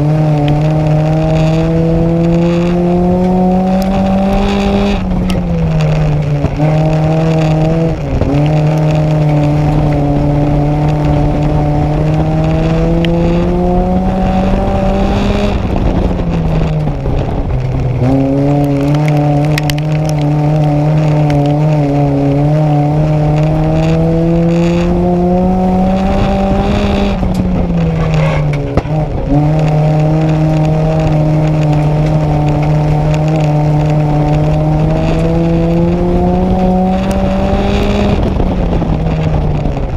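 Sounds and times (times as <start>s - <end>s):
race car engine under hard throttle: 0.0s - 39.9s.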